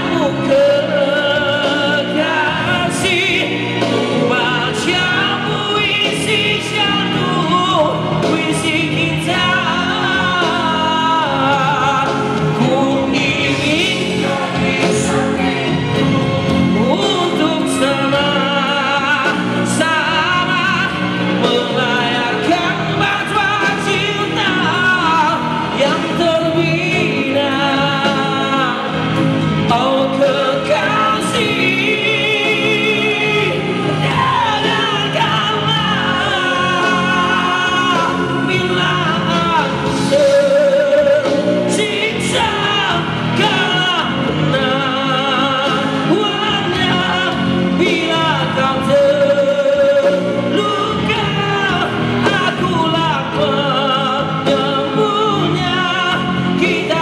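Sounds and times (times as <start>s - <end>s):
man singing into microphone: 0.0s - 16.0s, 16.7s - 57.0s
loud backing music: 0.0s - 57.0s.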